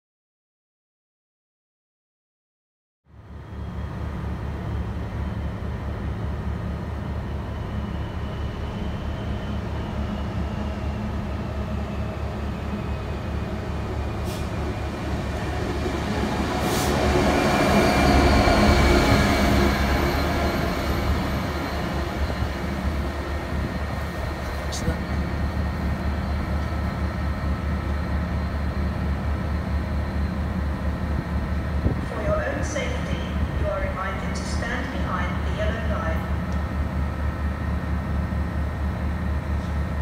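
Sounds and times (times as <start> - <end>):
diesel locomotive engine throbbing: 3.2 - 40.0.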